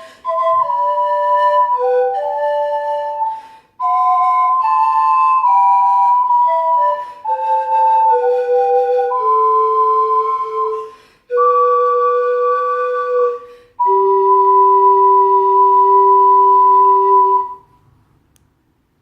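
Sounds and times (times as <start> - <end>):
pan flute: 0.0 - 17.8
ocarina: 0.0 - 18.5.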